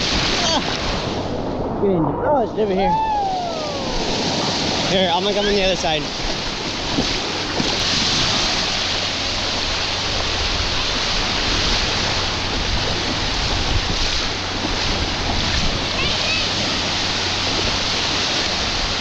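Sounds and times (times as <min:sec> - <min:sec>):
ocean surf in shallow water: 0:00.0 - 0:19.0.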